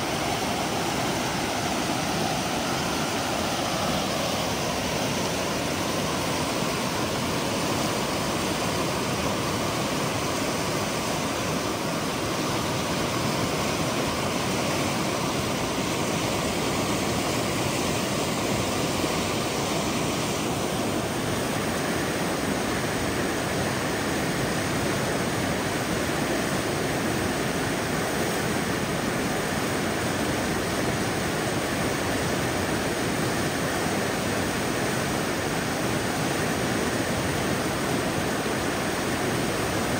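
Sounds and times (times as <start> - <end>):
whitewater rushing over rocks: 0.0 - 39.9.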